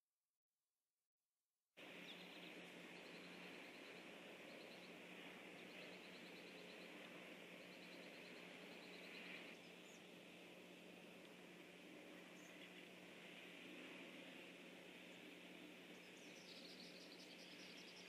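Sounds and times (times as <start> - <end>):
steady hiss: 1.8 - 18.0.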